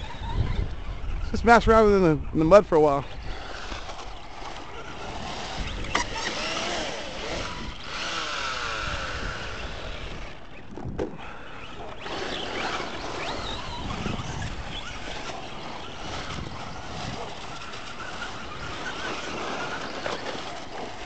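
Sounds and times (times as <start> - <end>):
rc truck motor whine: 0.0 - 1.6, 3.0 - 21.0.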